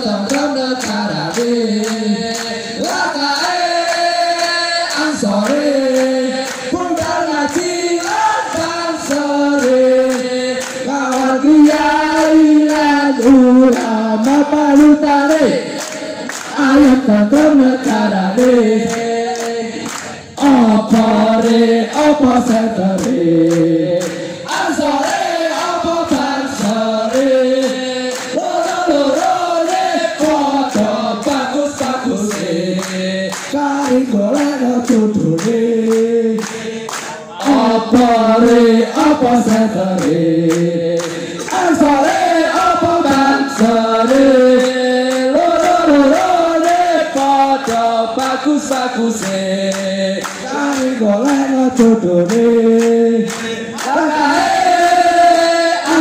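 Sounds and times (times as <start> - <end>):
hand clapping in time: 0.0 - 56.0
men singing together: 0.0 - 56.0.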